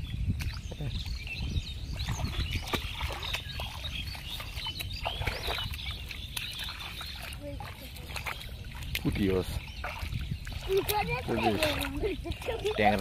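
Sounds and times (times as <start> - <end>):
catfish squeaks and clicks: 2.1 - 12.6.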